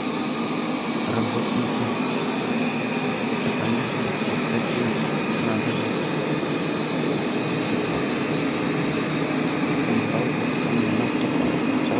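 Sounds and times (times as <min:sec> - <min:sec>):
high whine: 0:00.0 - 0:11.9.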